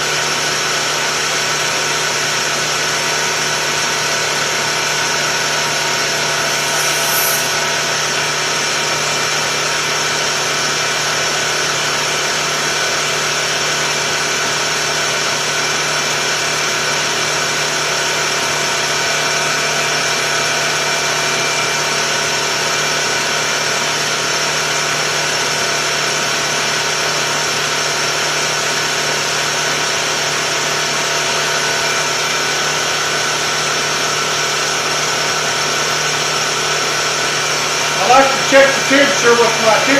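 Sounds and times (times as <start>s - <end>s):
air compressor hum and whine: 0.0s - 39.9s.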